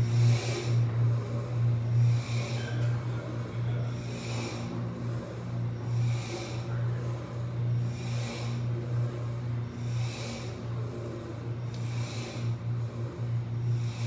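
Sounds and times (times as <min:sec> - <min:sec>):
breathing close to microphone: 0:00.0 - 0:14.0
steady low hum: 0:00.0 - 0:14.0.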